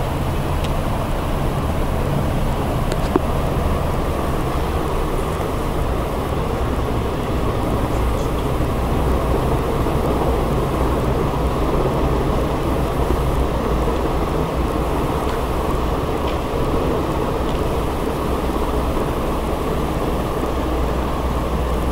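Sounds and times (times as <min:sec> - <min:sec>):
loud low rumbling: 0:00.0 - 0:21.9.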